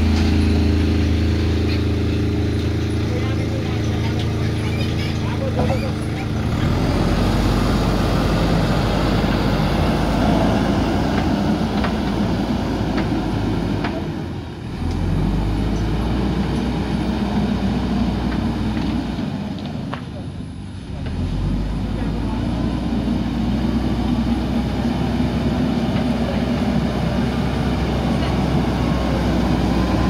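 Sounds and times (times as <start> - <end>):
backhoe diesel engine running: 0.0 - 30.0.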